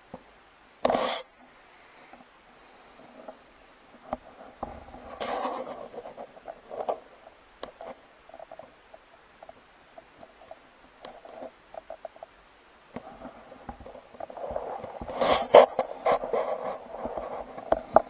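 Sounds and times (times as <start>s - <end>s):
light clicks and rustles: 2.9s - 18.0s.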